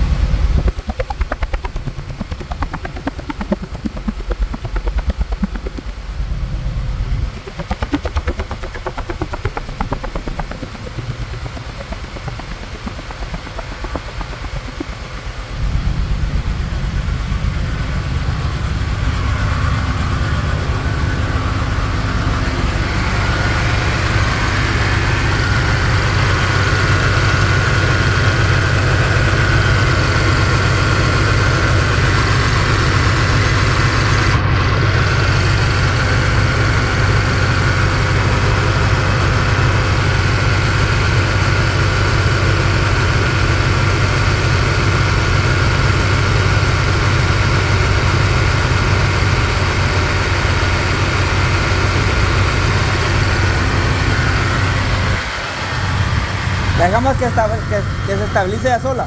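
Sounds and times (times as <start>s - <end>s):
high engine whine: 0.0s - 59.0s
misfiring car engine running: 0.0s - 59.0s.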